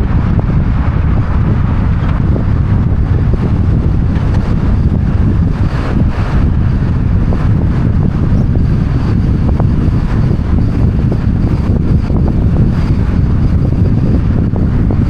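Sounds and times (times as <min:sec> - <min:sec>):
road noise: 0:00.0 - 0:15.0
wind buffeting microphones: 0:00.0 - 0:15.0.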